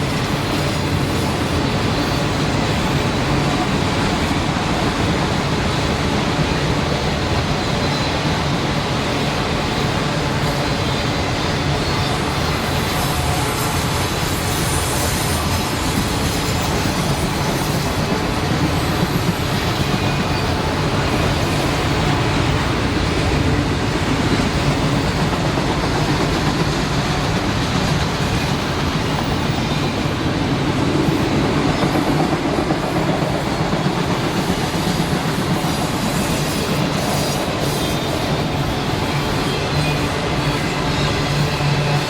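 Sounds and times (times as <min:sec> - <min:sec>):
freight train cars rolling past: 0:00.0 - 0:42.0.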